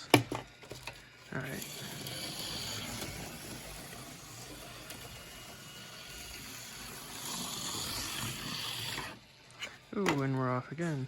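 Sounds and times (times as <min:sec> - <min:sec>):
slot car motor whirring: 0:00.6 - 0:10.4.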